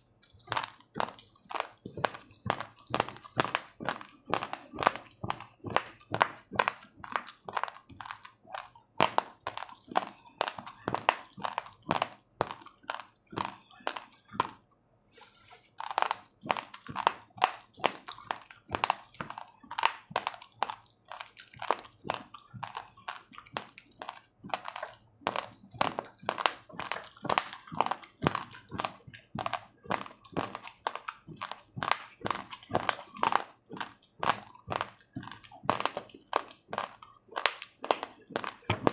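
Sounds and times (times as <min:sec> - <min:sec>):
chewing crunchy rice: 0:00.0 - 0:38.9.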